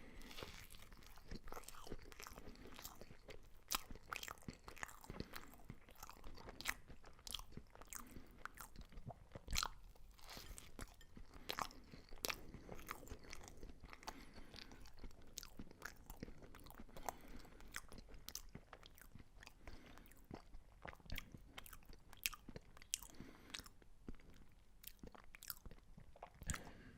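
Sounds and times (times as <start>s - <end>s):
crunching crisp food: 0.0s - 20.2s, 20.8s - 26.8s
soft mouth sounds: 0.0s - 26.9s.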